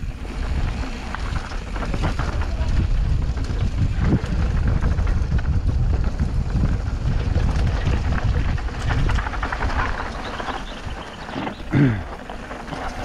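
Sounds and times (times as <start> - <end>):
bike rattling over bumps: 0.0 - 13.0
tyres rolling over loose dirt: 0.0 - 13.0
wind buffeting microphone: 0.0 - 13.0.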